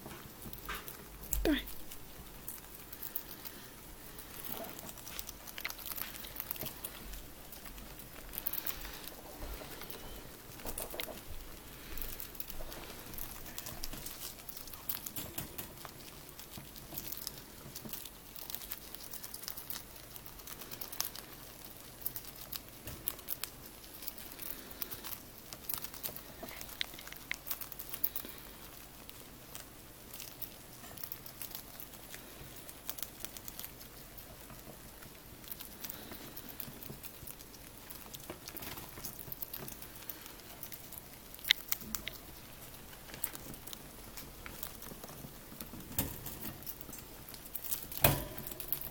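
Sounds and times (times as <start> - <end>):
rats crunching food: 0.0 - 48.9.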